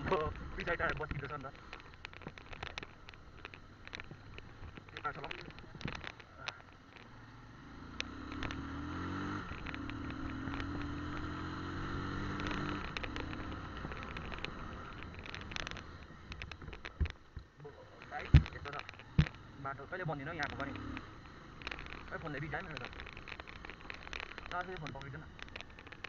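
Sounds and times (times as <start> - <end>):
bike clicks and knocks: 0.0 - 26.0
motorcycle engine running: 0.0 - 26.0.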